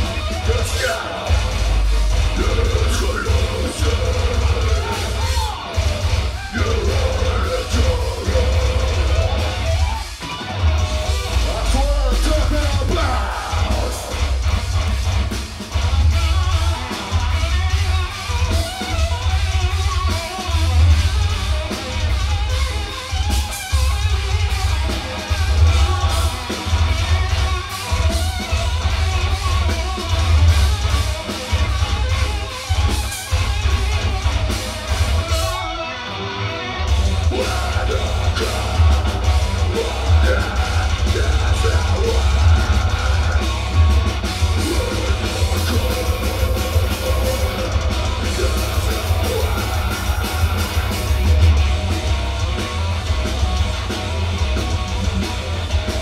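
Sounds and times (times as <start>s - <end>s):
harsh vocals: 0.0s - 56.0s
live heavy metal band: 0.0s - 56.0s.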